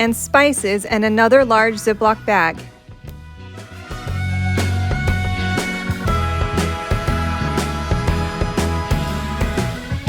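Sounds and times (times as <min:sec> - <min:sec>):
bass line: 0:00.0 - 0:10.0.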